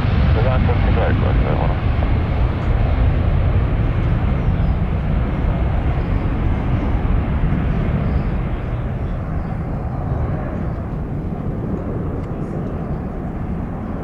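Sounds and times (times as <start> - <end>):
jet aircraft climbing: 0.0 - 14.0.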